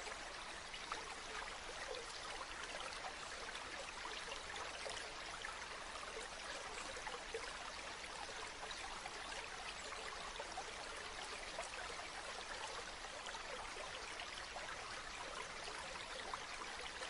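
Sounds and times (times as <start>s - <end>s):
stream of running water: 0.0s - 17.0s.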